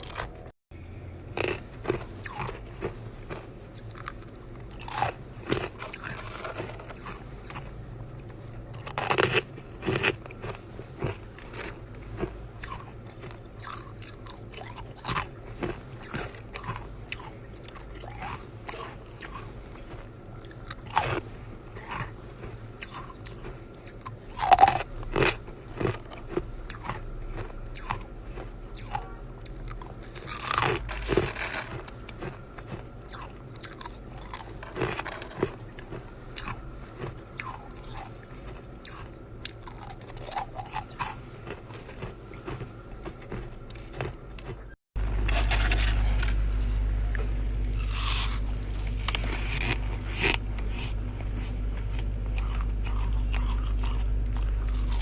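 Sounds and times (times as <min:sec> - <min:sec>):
ice being chewed: 0:00.0 - 0:55.0
steady low hum: 0:00.0 - 0:55.0.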